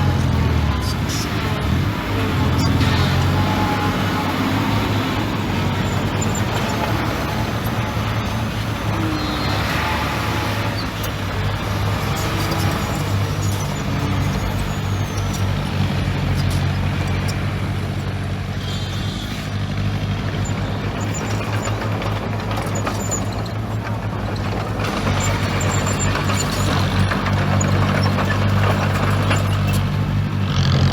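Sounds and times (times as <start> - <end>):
diesel machinery engine drone: 0.0 - 30.9.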